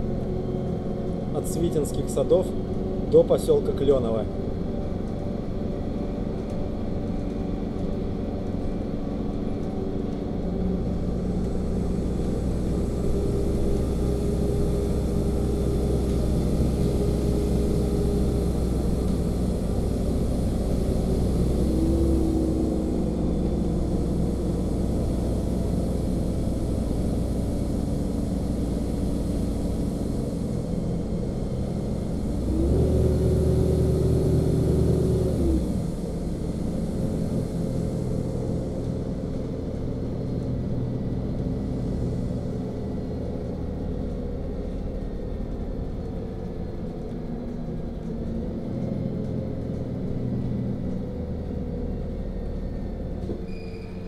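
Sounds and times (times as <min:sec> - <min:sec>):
steady whine: 0:00.0 - 0:46.2
bus engine drone: 0:00.0 - 0:54.0.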